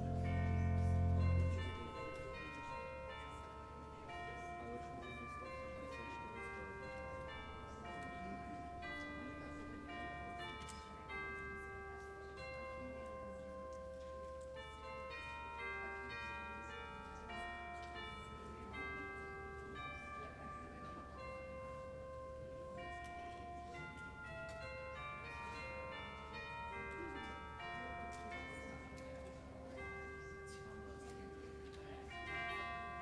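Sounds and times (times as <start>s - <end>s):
soft instrumental music with bell tones: 0.0s - 33.0s.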